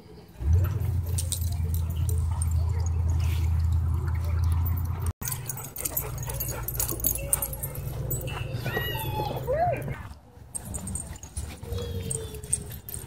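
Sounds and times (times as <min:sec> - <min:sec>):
dog tags jingling: 0:00.6 - 0:13.0.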